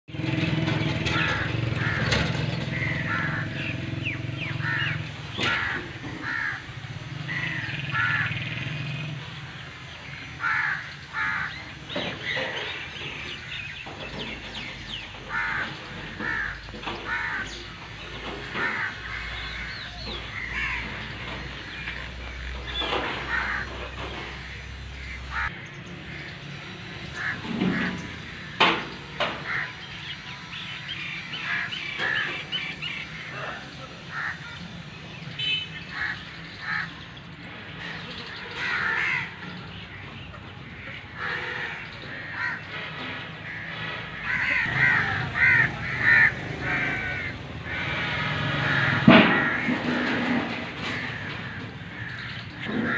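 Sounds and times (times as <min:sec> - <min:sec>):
birds calling: 0:00.1 - 0:52.9.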